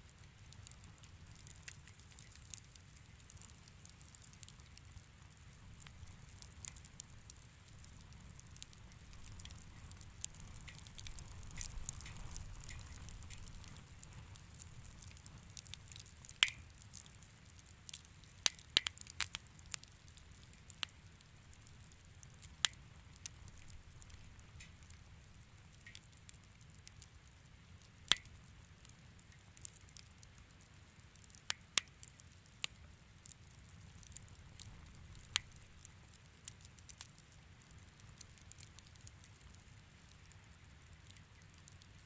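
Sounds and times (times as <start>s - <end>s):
low rumble of flames: 0.0s - 42.0s
wood fire crackling: 0.0s - 42.0s.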